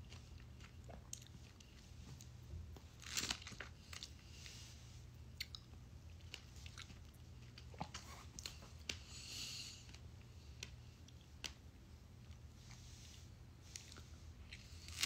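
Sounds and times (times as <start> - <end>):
soft chewing with mouth clicks: 0.0 - 15.0.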